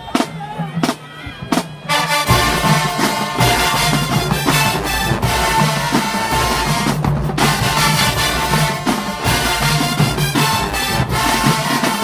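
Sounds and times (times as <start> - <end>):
marching band playing: 0.0 - 12.0.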